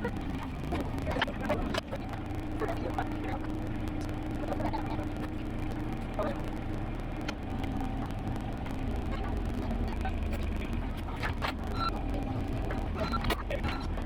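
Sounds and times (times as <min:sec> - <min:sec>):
diesel excavator engine running: 0:00.0 - 0:14.0.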